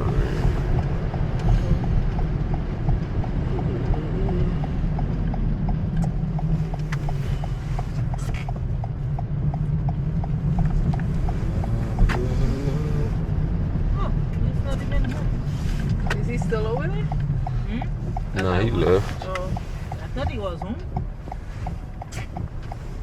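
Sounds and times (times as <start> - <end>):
engine and tyres rumbling: 0.0 - 23.0
turn signal clicking: 0.0 - 23.0.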